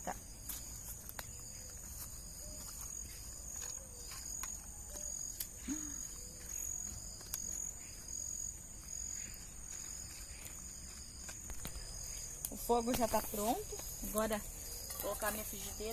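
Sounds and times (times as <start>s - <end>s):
insects chirping: 0.0s - 15.9s.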